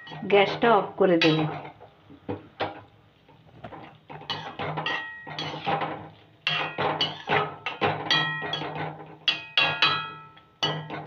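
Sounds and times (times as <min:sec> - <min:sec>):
metal ladle scraping metal pan: 0:00.0 - 0:01.9, 0:03.7 - 0:11.0.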